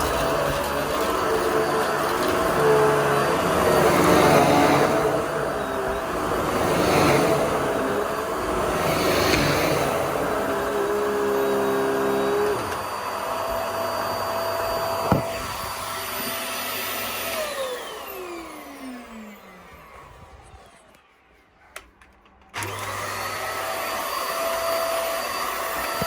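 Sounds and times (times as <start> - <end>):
vacuum motor whining down: 0.0 - 21.3, 22.5 - 26.0
vacuum cleaner running: 0.0 - 26.0.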